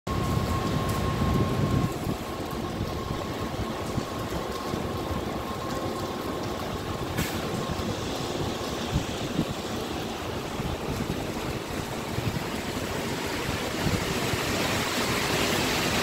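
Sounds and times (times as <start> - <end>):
electric train running: 0.1 - 16.0
thin high train whine: 0.1 - 16.0.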